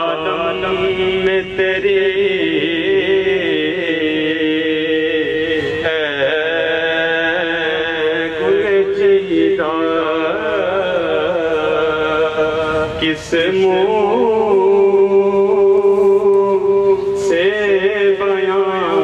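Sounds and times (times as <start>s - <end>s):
man singing long held notes: 0.0s - 19.0s
steady drone: 0.0s - 19.0s.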